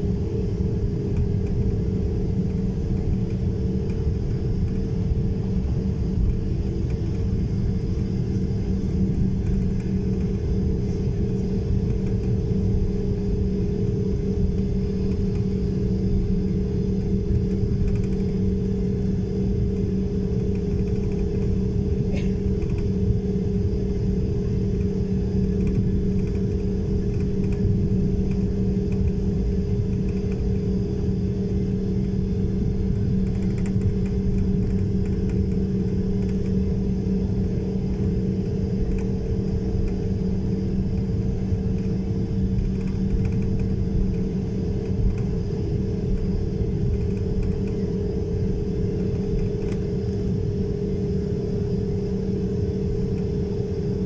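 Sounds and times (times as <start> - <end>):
engine rumbling with droning hum: 0.0 - 54.0.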